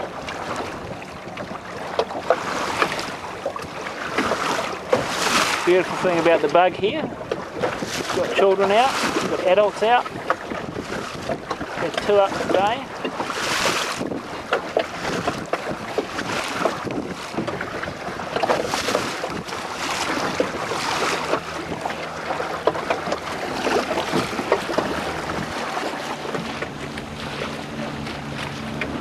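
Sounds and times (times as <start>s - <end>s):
water splashing against boat hull: 0.0s - 29.0s
wind buffeting microphone: 2.4s - 29.0s.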